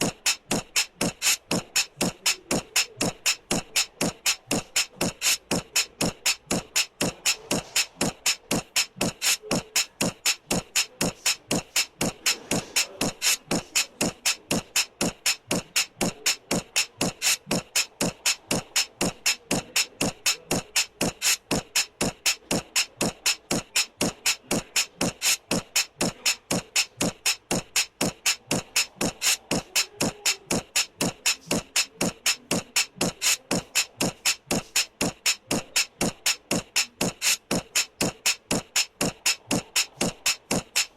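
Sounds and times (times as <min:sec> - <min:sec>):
background music with percussive beat: 0:00.0 - 0:40.9.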